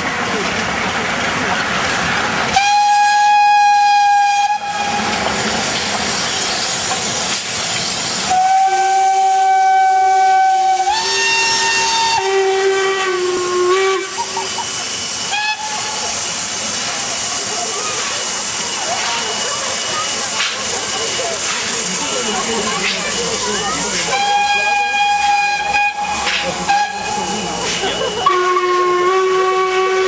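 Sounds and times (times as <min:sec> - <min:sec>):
steam hissing: 0:00.1 - 0:30.0
steam locomotive whistles: 0:02.5 - 0:30.0.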